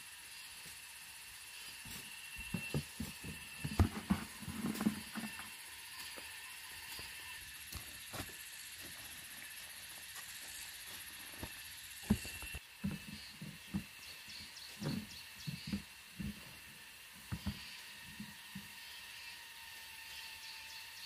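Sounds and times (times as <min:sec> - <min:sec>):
high-pitched insect buzz: 0:00.0 - 0:21.0.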